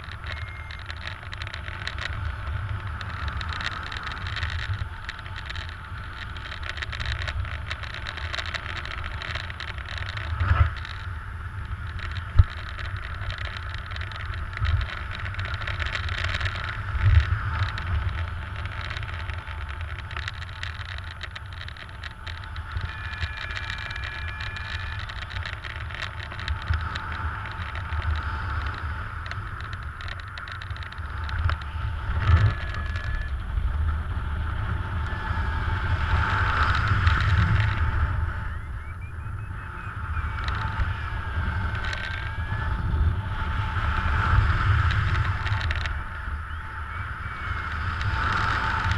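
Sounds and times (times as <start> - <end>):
sharp wind buffets: 0.0 - 48.9
wind rushing over microphone: 0.0 - 48.9.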